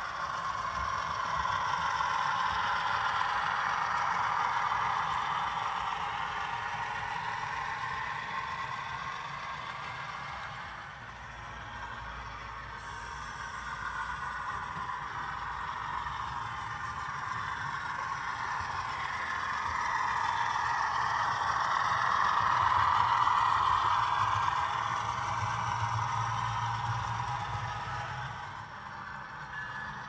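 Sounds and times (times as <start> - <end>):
low motor hum: 0.0 - 30.0
model train wheels rattling: 0.0 - 30.0.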